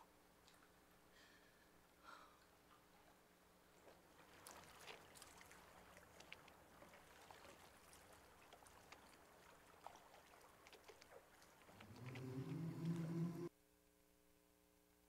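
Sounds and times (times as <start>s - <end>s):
faint water wash from speakers: 0.0s - 13.5s.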